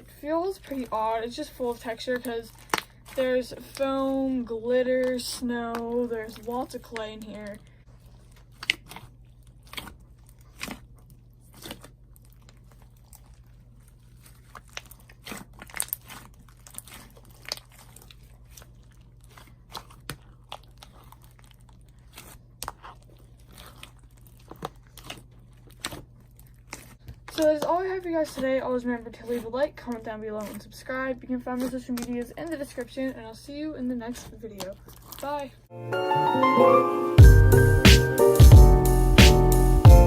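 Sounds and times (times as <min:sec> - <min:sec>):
hands squishing slime: 0:00.0 - 0:35.5.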